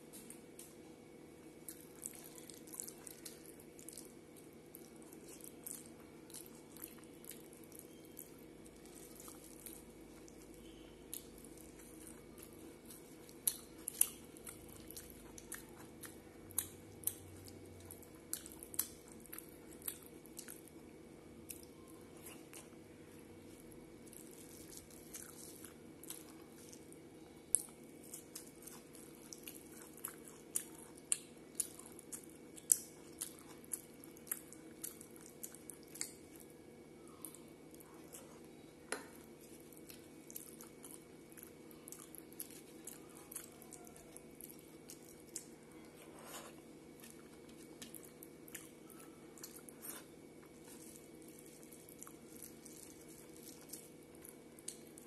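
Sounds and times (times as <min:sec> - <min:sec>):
steady low hum: 0:00.0 - 0:55.0
chewing: 0:01.5 - 0:20.8, 0:21.5 - 0:55.0.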